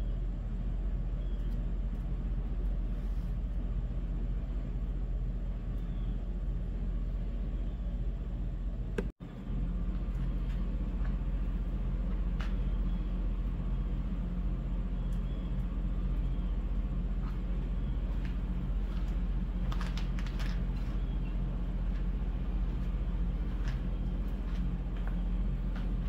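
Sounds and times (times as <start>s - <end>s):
low droning hum: 0.0s - 26.0s.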